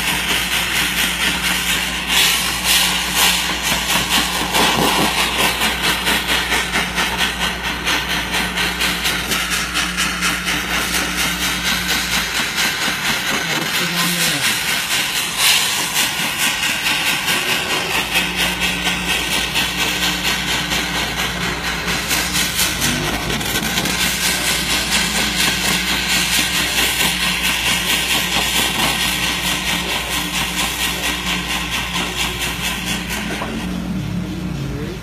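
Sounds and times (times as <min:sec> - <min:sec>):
gas torch flame hissing: 0:00.0 - 0:34.8.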